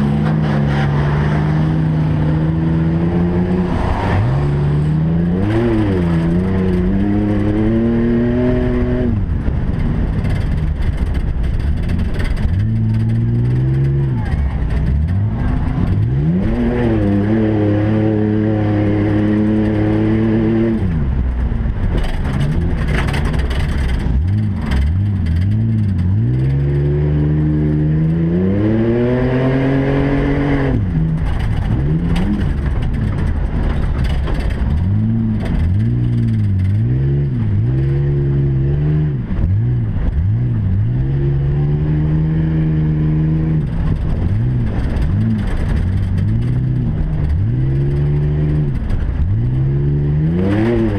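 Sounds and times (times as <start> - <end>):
race truck engines revving: 0.0 - 50.9.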